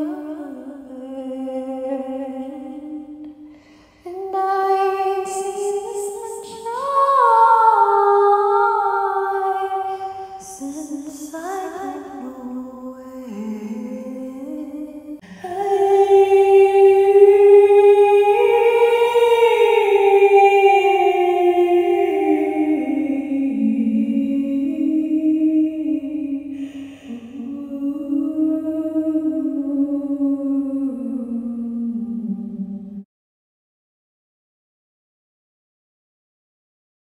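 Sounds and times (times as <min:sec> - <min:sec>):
woman singing without words: 0:00.0 - 0:32.9.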